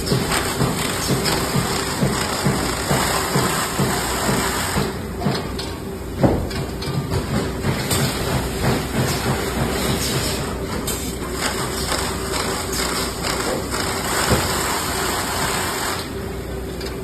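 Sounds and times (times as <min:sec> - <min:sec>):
tape sealing machine running: 0:00.0 - 0:05.2, 0:07.7 - 0:16.3.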